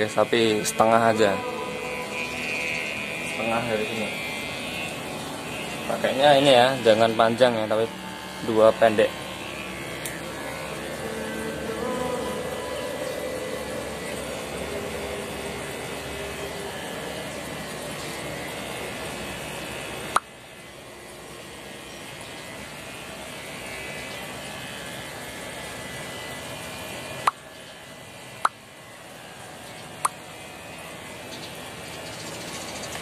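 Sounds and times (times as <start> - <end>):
electric hair clipper buzzing: 0.0 - 33.0.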